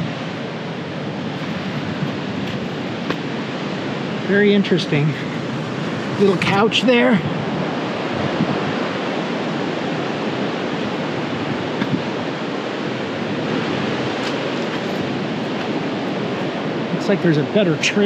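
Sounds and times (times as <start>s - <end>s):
ocean surf waves: 0.0s - 18.0s.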